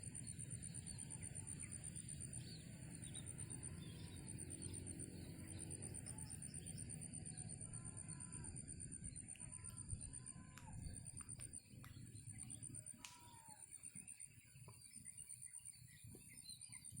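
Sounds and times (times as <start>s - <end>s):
insect trill: 0.0s - 17.0s
faint bird calls: 3.0s - 17.0s.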